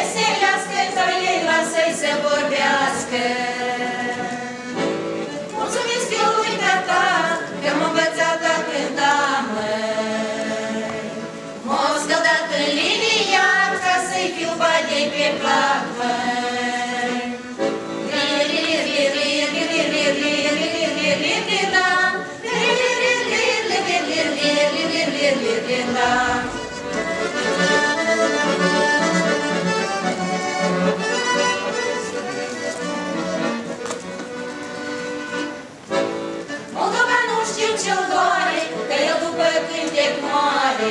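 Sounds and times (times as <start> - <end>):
women singing folk song together: 0.0 - 30.0, 36.5 - 40.9.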